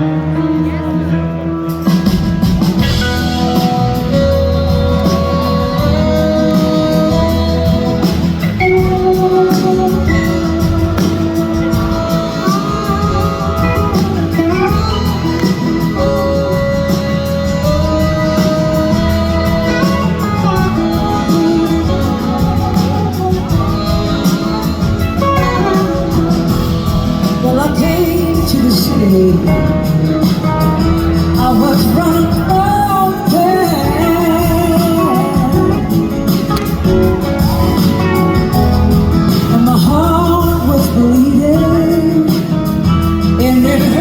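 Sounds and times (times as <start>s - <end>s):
live band playing: 0.0s - 44.0s
slide guitar melody: 0.0s - 44.0s.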